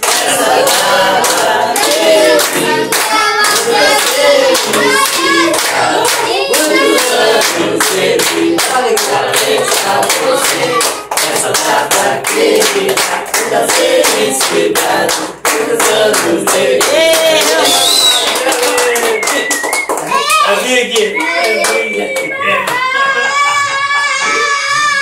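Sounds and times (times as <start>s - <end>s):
people singing birthday song: 0.0s - 19.4s, 20.5s - 25.0s
people clapping in time: 0.0s - 24.9s.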